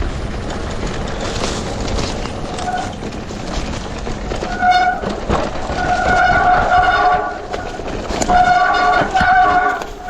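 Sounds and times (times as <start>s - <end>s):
bike rattling on rough ground: 0.0s - 10.0s.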